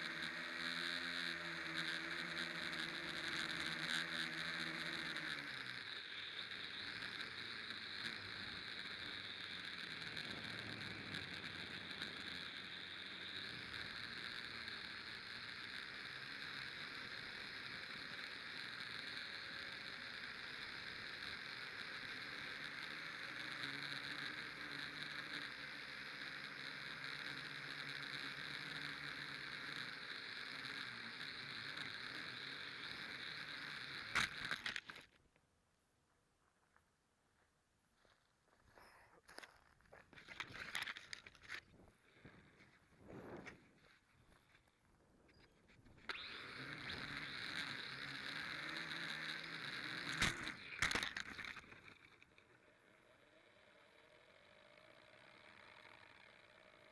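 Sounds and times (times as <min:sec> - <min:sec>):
electric motor whine: 0:00.0 - 0:35.2, 0:40.1 - 0:56.9.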